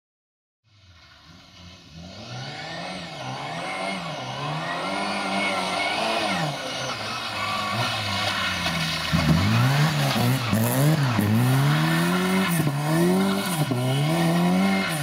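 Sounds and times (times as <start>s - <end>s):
rally car engine revving: 1.2s - 15.0s.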